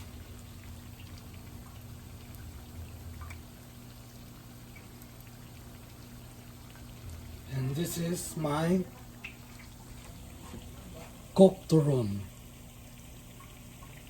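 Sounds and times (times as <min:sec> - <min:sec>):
oil popping and crackling: 0:00.0 - 0:11.4.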